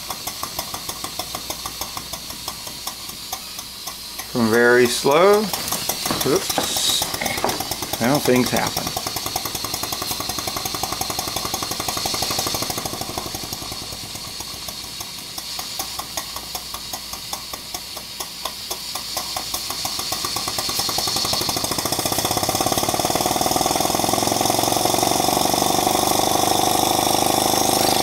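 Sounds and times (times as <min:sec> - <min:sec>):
steady steam hiss: 0:00.0 - 0:28.0
steam engine clattering: 0:00.0 - 0:28.0.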